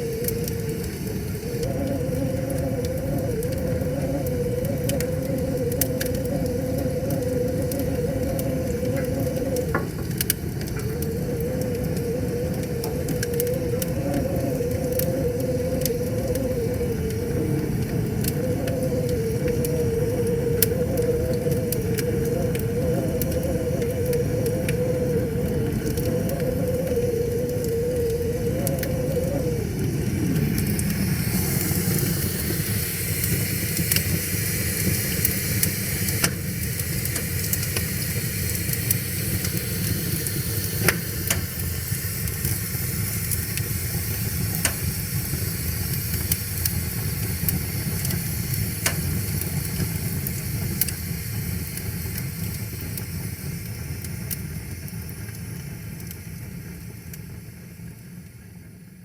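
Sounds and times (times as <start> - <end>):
fire pops: 0.0 - 57.3
wood fire crackling and hissing: 0.0 - 59.0.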